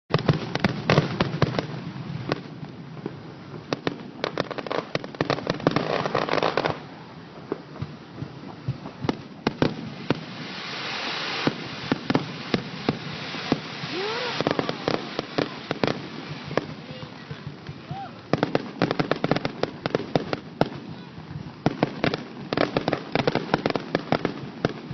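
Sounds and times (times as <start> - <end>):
firework bangs and pops: 0.1 - 24.9
firework crackling: 0.1 - 24.9.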